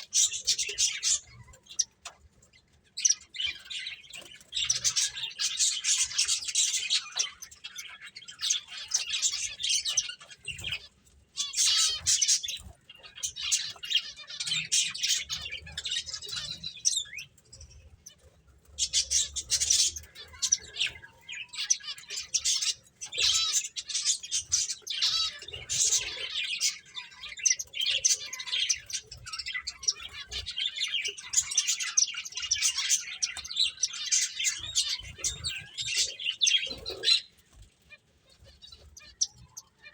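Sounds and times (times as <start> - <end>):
finches chirping and twittering: 0.0 - 39.9.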